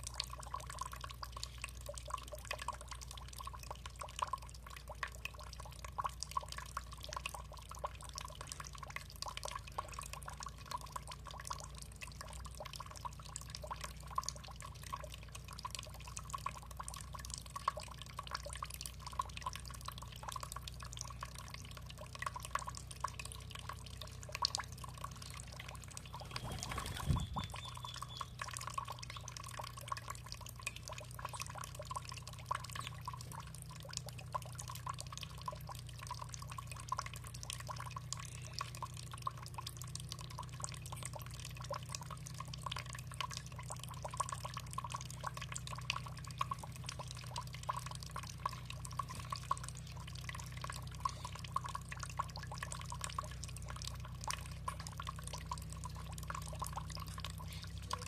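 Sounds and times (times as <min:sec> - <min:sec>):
low steady rumble: 0:00.0 - 0:58.0
water dripping and trickling: 0:00.0 - 0:58.0.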